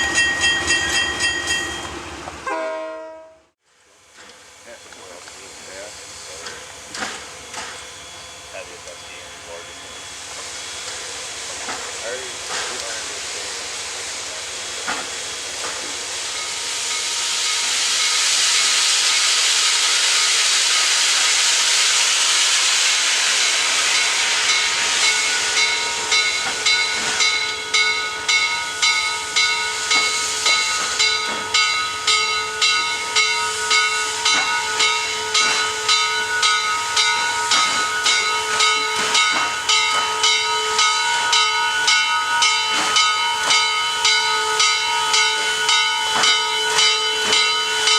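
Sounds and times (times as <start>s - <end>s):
steam locomotive exhaust chuffs: 3.8s - 47.9s
steam hissing: 4.1s - 47.9s.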